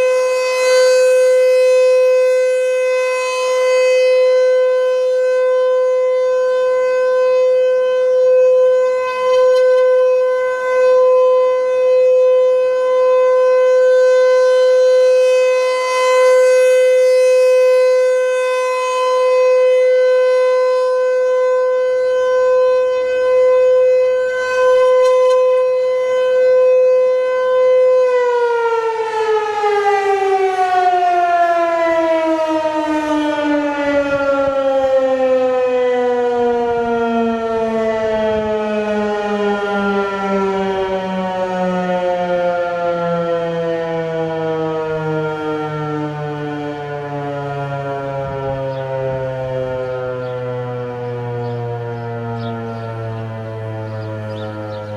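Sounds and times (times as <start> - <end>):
outdoor warning siren: 0.0 - 54.9.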